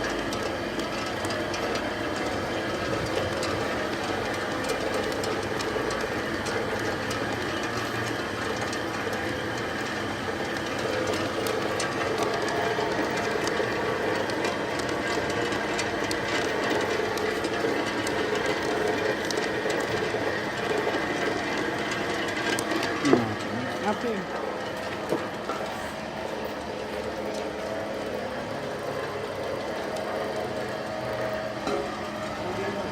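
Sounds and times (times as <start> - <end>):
pellet mill droning: 0.0 - 32.9
sharp clicks and rattles: 0.0 - 32.9.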